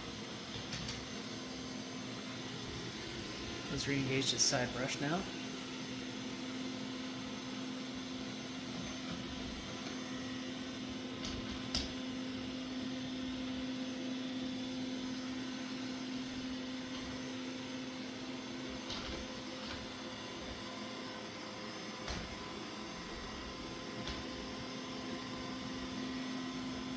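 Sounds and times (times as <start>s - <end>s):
robot vacuum humming: 0.0s - 26.9s.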